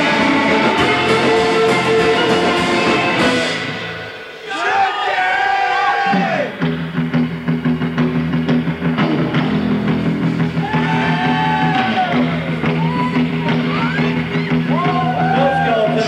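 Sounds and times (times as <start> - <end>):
electric bass: 0.0 - 4.3, 6.2 - 16.0
sliding lead guitar line: 0.0 - 4.4, 6.5 - 16.0
drums: 0.0 - 16.0.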